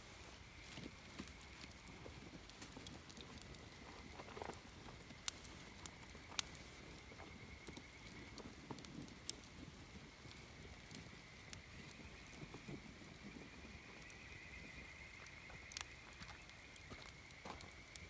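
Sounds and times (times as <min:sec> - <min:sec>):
campfire wood crackling: 0:00.0 - 0:18.0.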